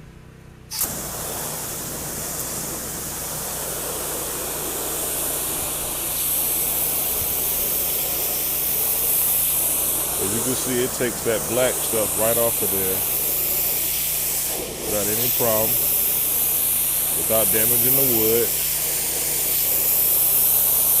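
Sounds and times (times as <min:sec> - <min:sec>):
engine running: 0:00.0 - 0:21.0
pressure washer spray hissing: 0:00.7 - 0:21.0.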